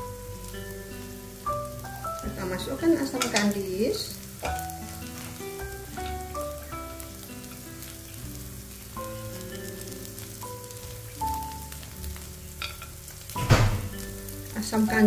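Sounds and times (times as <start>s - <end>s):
background music melody: 0.0s - 15.0s
food sizzling in a wok: 0.0s - 15.0s.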